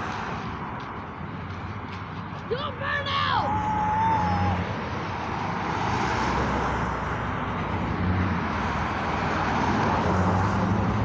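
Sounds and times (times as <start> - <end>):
highway traffic passing: 0.0 - 11.0.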